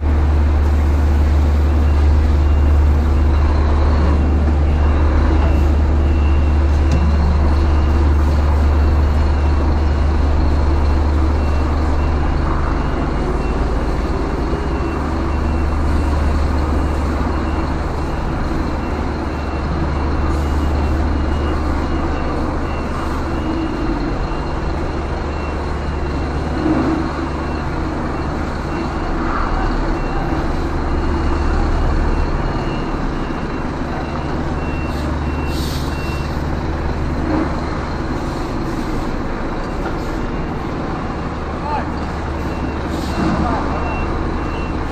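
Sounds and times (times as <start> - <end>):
diesel truck engine running: 0.0 - 44.9
reverse alarm beeping: 0.2 - 37.0, 39.6 - 44.9.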